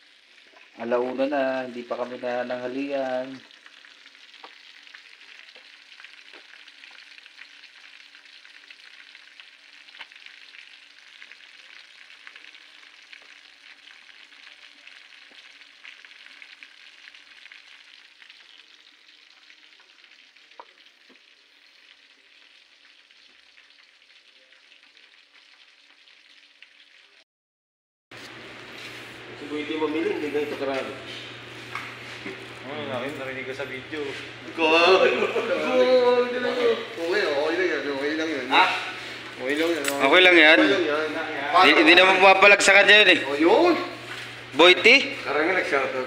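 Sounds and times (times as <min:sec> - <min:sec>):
fish frying in oil: 0:00.0 - 0:27.2, 0:28.2 - 0:46.0.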